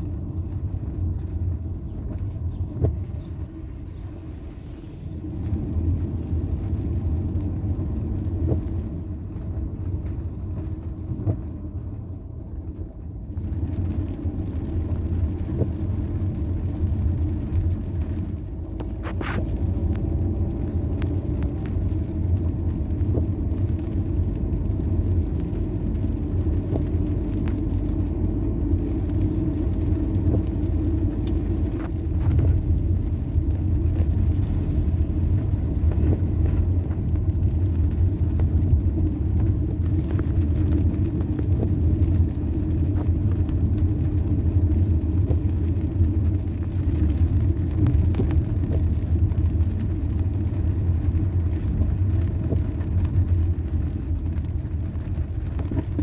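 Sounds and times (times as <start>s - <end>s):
car driving on wet road: 0.0s - 56.0s
car engine and tyre noise: 0.0s - 56.0s.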